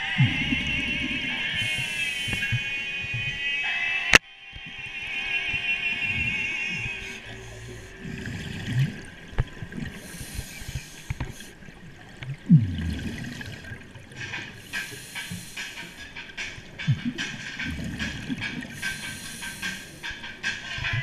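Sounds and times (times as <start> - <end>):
muffled underwater rumbling: 0.0 - 3.7, 4.8 - 21.0.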